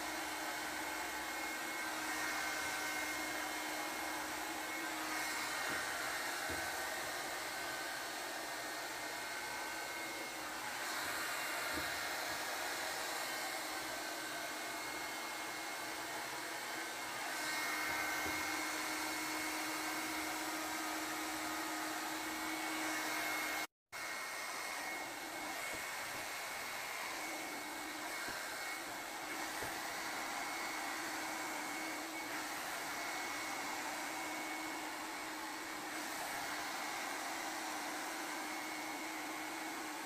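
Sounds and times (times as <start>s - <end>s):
hot air brush fan humming: 0.0s - 40.0s.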